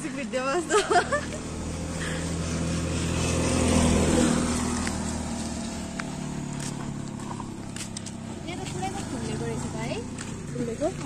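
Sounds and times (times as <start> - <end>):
minivan driving past: 0.0 - 11.0.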